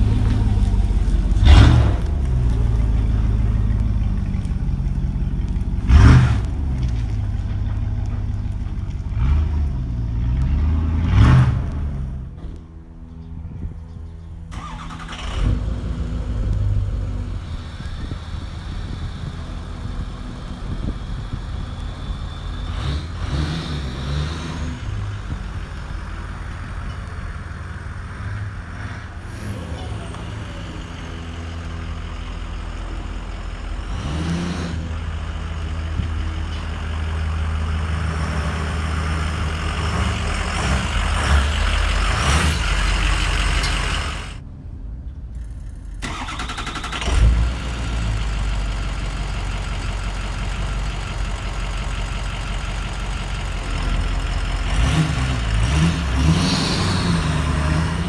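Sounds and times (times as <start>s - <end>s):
truck engine surging: 0.0s - 13.2s, 14.0s - 44.4s, 45.4s - 58.0s
truck engine low rumble: 0.0s - 58.0s.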